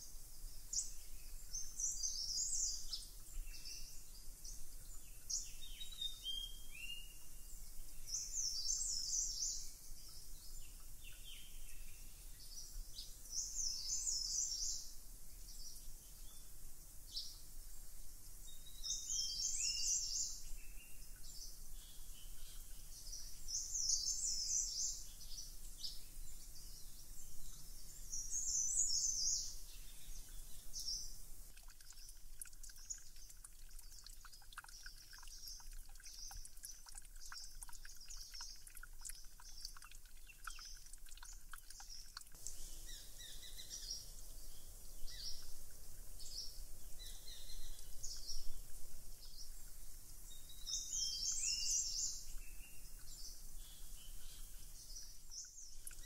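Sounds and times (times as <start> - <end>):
faint background hiss: 0.0 - 56.0
lower bird chirps: 0.0 - 56.0.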